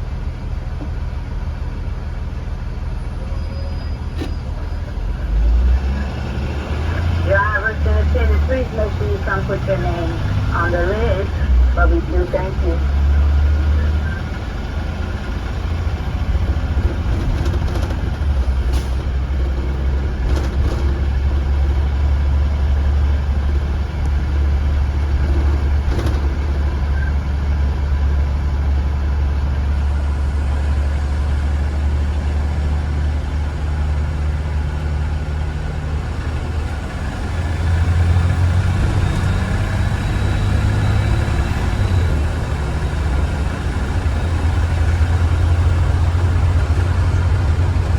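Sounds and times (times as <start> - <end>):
bus engine droning: 0.0 - 47.9.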